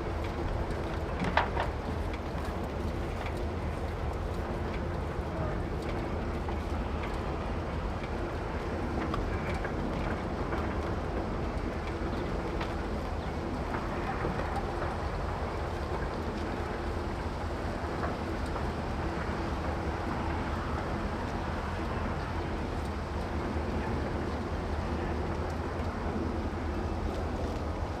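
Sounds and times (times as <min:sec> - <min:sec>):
light aircraft engine droning: 0:00.0 - 0:28.0.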